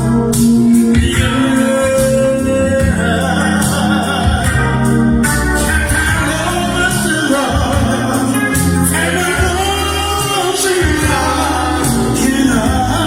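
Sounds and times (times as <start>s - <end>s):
live band music: 0.0s - 13.0s
person singing: 0.0s - 13.0s.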